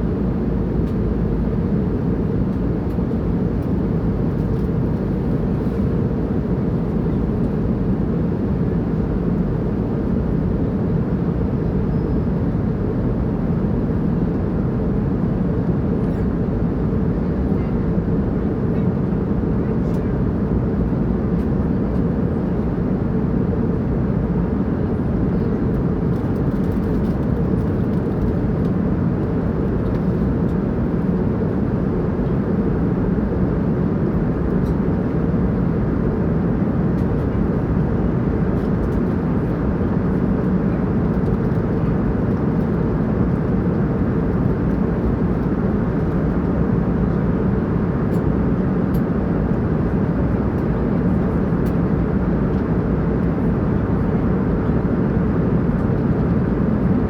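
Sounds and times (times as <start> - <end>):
jet airliner cabin noise: 0.0 - 57.0.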